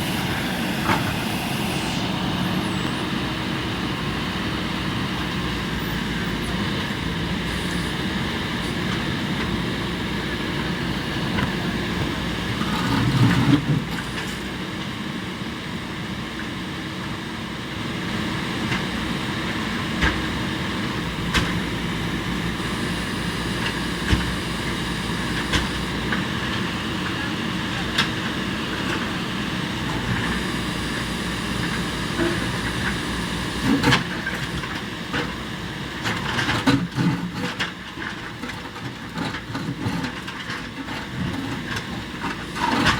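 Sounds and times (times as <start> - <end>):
backhoe diesel engine running: 0.0 - 42.9.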